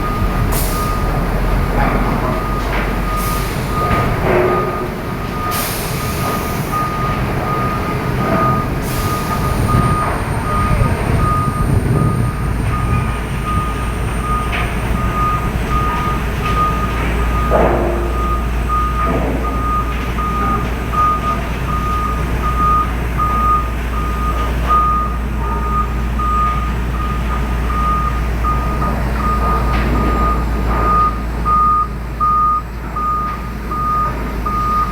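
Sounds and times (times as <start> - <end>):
low diesel engine rumble: 0.0 - 34.9
reversing alarm beeping: 0.0 - 34.9.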